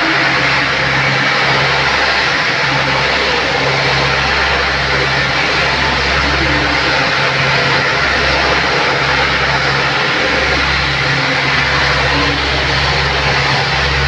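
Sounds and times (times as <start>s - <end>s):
military aircraft engines running: 0.0s - 14.0s.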